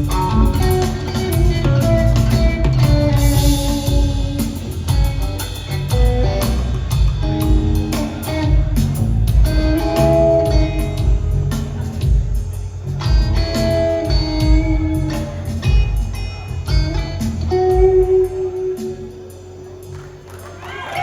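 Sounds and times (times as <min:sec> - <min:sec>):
bass guitar: 0:00.0 - 0:21.0
drum kit: 0:00.0 - 0:21.0
electric guitar: 0:00.0 - 0:21.0.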